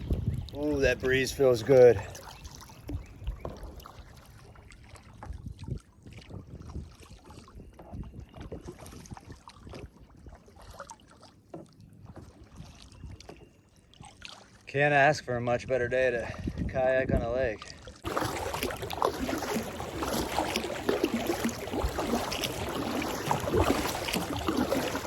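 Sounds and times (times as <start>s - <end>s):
paddle strokes and water splashes: 0.0s - 15.0s, 16.1s - 25.0s.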